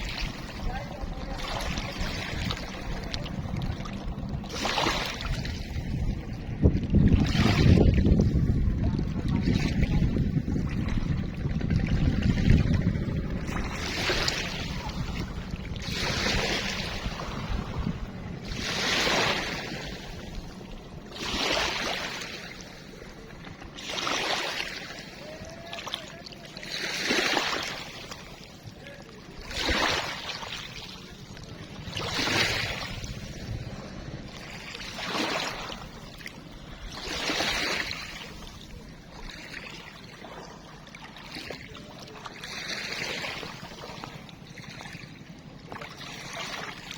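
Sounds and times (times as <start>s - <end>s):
river water lapping: 0.0s - 46.9s.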